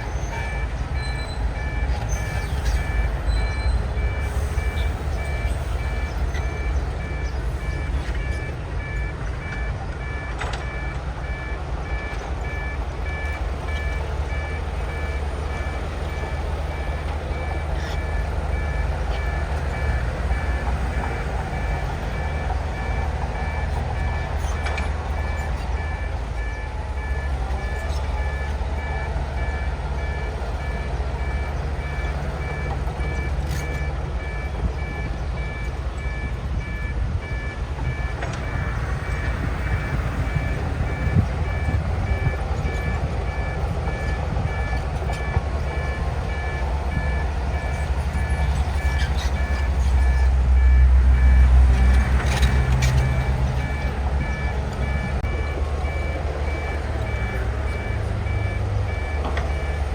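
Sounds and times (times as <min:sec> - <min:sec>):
diesel engine rumbling: 0:00.0 - 0:59.9
two-tone backup alarm beeping: 0:00.0 - 0:59.9.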